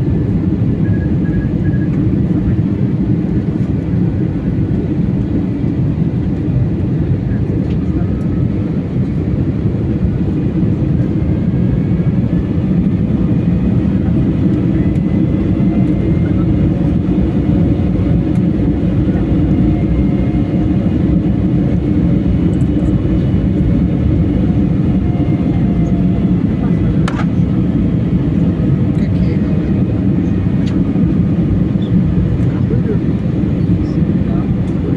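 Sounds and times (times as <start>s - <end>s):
airliner cabin engine noise: 0.0s - 34.9s.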